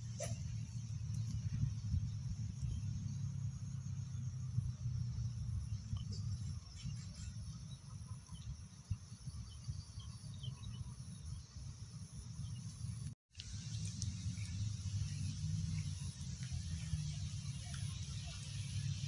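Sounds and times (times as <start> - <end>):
faint chirps: 0.0 - 19.0
low uneven rumble: 0.0 - 19.0.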